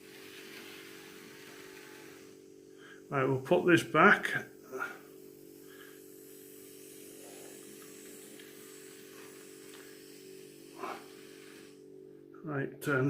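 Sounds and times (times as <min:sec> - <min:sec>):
faint electric buzz: 0:00.0 - 0:13.0.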